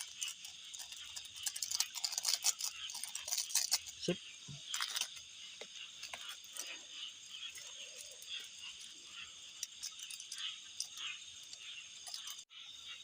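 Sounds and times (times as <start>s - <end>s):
frog calls: 0.0s - 13.0s
insect trills: 0.0s - 13.0s.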